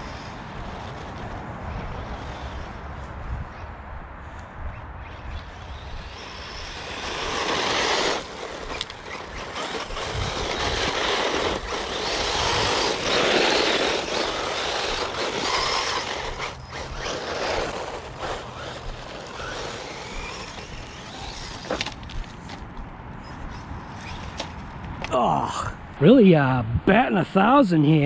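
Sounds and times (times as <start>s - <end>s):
rc car tyres rushing on gravel: 0.0s - 3.6s, 5.0s - 25.1s.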